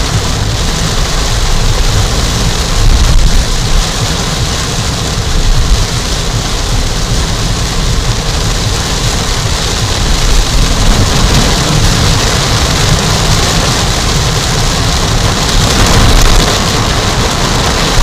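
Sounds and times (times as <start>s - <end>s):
heavy rain on a car: 0.0s - 18.0s
low rumble: 0.0s - 18.0s.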